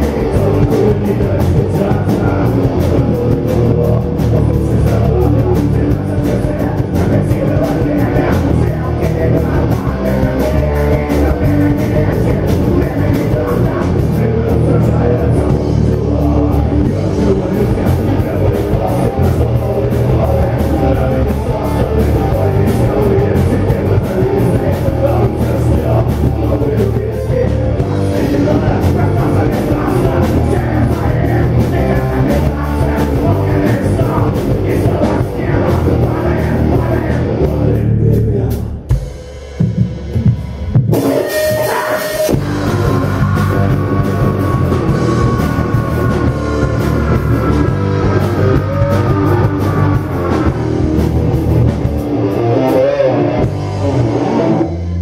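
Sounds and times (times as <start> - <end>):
electric guitar: 0.0 - 39.1, 40.2 - 55.0
drum kit: 0.0 - 55.0
live rock band playing: 0.0 - 55.0.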